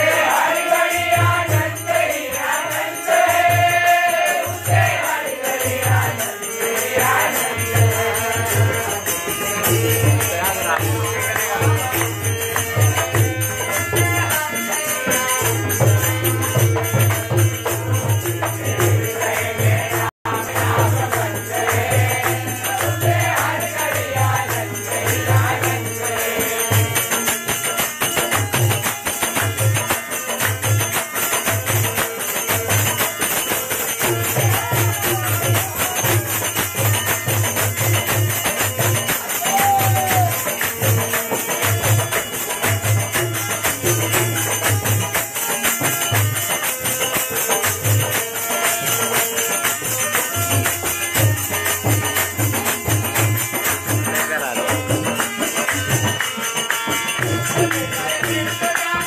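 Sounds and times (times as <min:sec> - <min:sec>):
dholak drums beating: 0:00.0 - 0:59.0
jingling hand percussion: 0:00.0 - 0:59.0
men singing in a group: 0:00.0 - 0:59.0.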